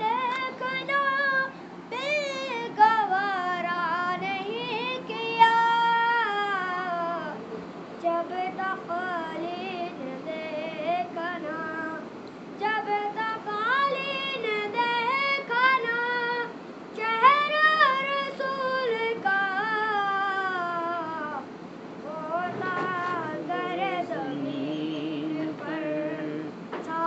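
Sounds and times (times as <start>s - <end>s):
boy singing unaccompanied: 0.0s - 27.0s.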